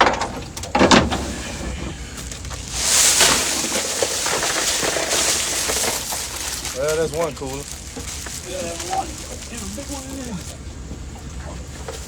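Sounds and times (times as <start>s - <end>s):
ice knocking in cooler: 0.0s - 11.1s
ice pouring rattling hiss: 1.2s - 10.8s.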